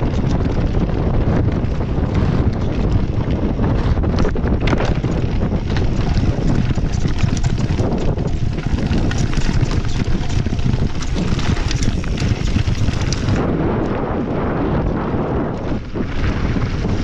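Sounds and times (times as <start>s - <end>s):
bike clicks and rattles: 0.0s - 17.0s
tyres rumbling on gravel trail: 0.0s - 17.0s
wind buffeting microphone: 0.0s - 17.0s.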